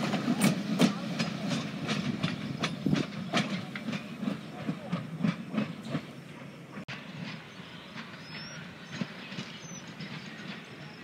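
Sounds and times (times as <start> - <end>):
train going by: 0.0 - 11.0.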